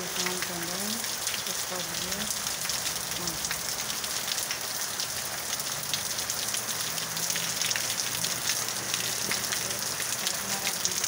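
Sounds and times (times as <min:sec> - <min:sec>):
steady rain falling on trees: 0:00.0 - 0:11.0.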